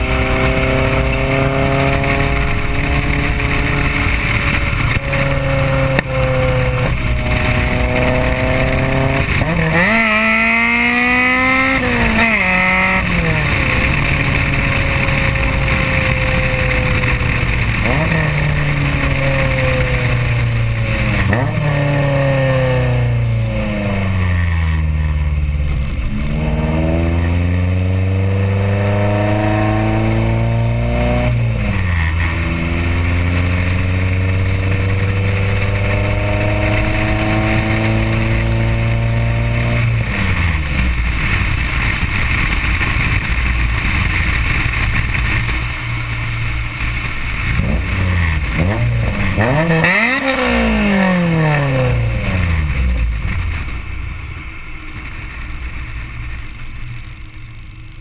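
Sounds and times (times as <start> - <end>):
car exhaust accelerating: 0.0 - 58.0.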